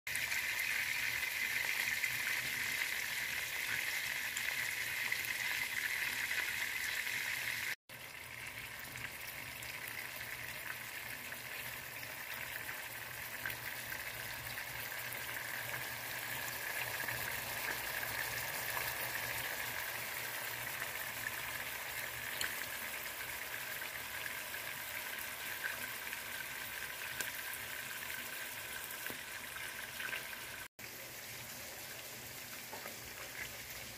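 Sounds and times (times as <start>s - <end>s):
meatballs sizzling in oil: 0.1s - 33.9s.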